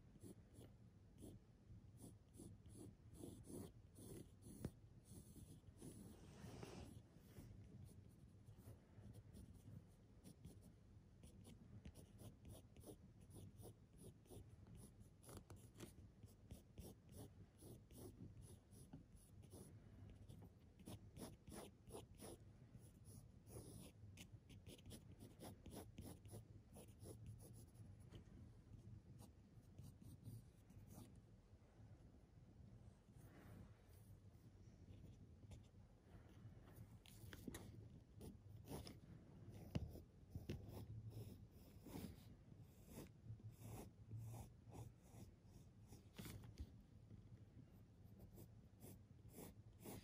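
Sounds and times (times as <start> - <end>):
pencil scratching on paper: 0.1 - 28.2, 29.1 - 31.2, 37.0 - 46.7, 47.8 - 50.0.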